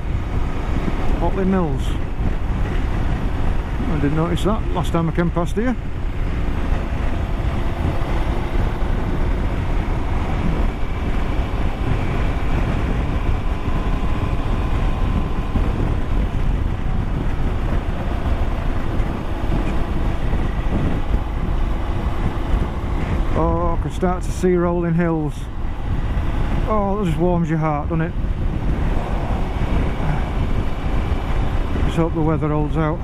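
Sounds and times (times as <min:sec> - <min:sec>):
motorcycle engine running: 0:00.0 - 0:33.0
wind rumbling on microphone: 0:00.0 - 0:33.0.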